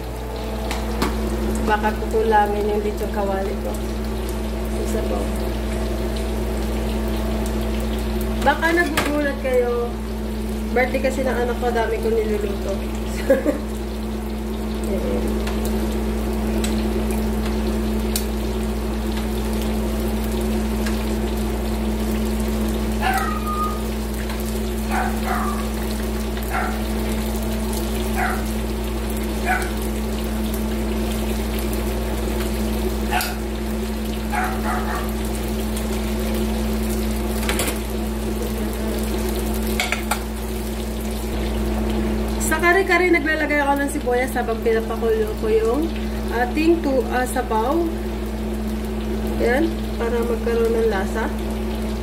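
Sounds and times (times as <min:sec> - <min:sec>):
oil sizzling in pans: 0:00.0 - 0:52.0.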